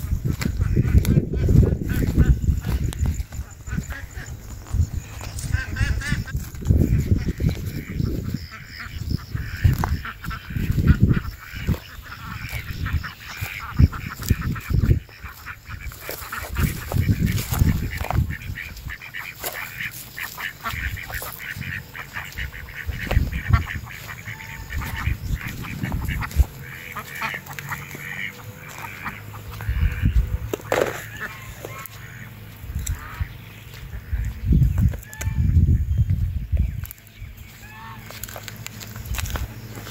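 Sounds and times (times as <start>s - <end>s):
footsteps crunching on dry earth: 0.0s - 39.9s
waterfowl honking and quacking: 0.0s - 39.9s.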